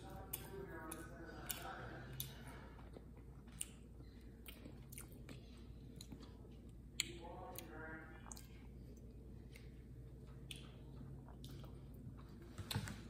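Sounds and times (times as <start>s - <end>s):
chewing: 0.0s - 12.9s.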